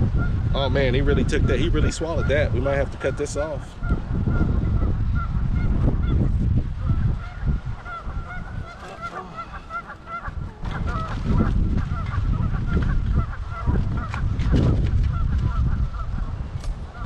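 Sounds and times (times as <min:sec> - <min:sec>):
wind buffeting microphone: 0:00.0 - 0:17.0
geese honking: 0:01.2 - 0:16.3.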